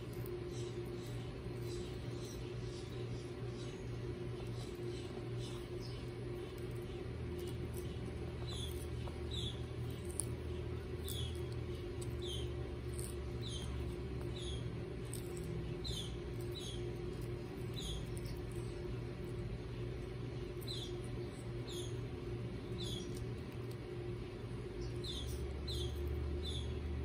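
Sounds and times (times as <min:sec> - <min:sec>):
steady low hum: 0:00.0 - 0:27.0
tortoises biting lettuce: 0:00.0 - 0:27.0.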